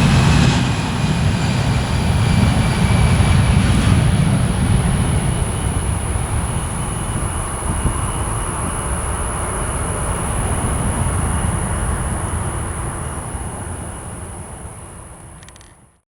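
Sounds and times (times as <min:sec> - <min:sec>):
jet engines rumbling: 0:00.0 - 0:15.9.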